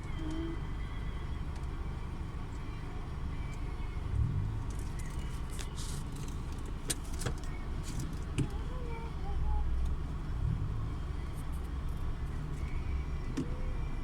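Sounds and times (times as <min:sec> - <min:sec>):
car cabin low rumble: 0:00.0 - 0:14.0.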